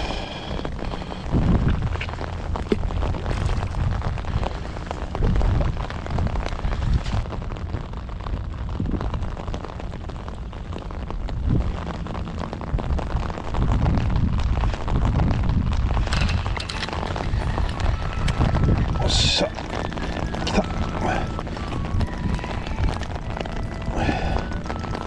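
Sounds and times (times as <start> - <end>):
rain pattering on umbrella: 0.0 - 25.0
wind buffeting microphone: 0.0 - 25.0.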